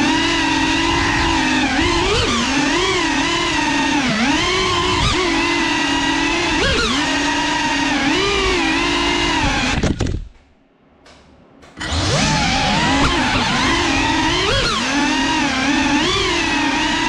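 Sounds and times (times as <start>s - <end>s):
quadcopter motors whining: 0.0s - 10.2s, 11.7s - 17.0s.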